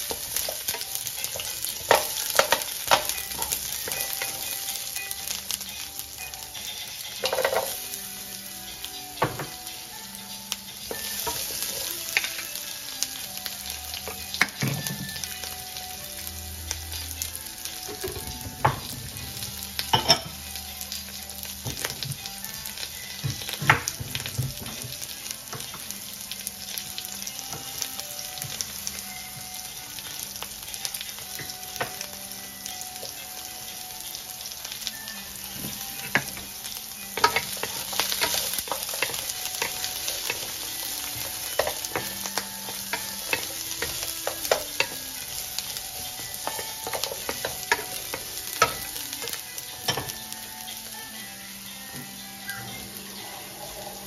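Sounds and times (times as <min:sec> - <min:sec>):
onion and ginger sizzling in wok: 0:00.0 - 0:54.0.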